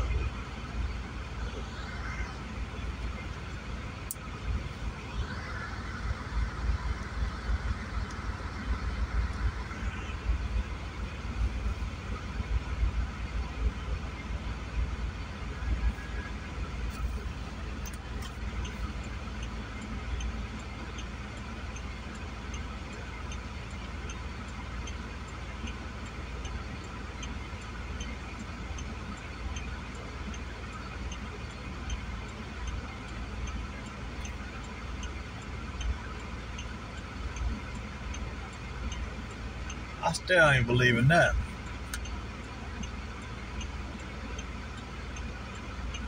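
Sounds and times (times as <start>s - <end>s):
light regular ticking: 0.0s - 46.0s.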